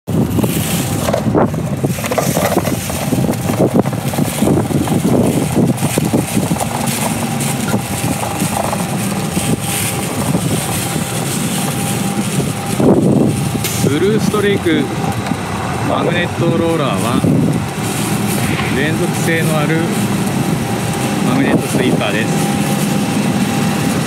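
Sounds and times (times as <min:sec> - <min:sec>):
magnetic sweeper rattling on concrete: 0:00.1 - 0:24.0
wind buffeting microphone: 0:00.1 - 0:24.0.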